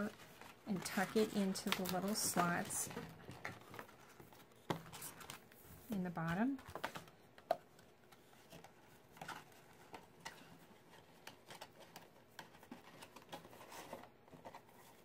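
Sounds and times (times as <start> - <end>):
cardstock rustling and tapping: 0.0 - 15.0.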